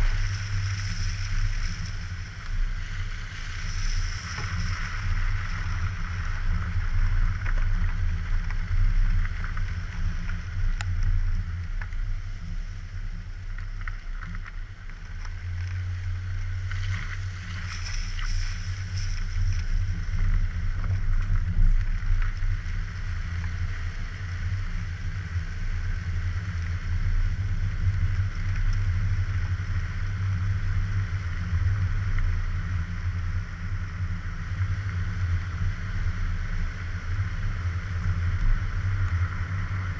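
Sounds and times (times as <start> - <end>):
car engine rumble: 0.0 - 39.9
wind noise: 0.0 - 39.9.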